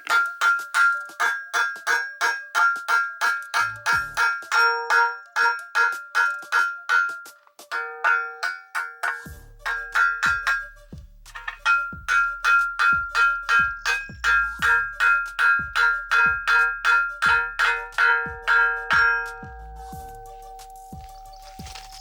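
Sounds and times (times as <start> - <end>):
hammer blows on metal: 0.0 - 22.0.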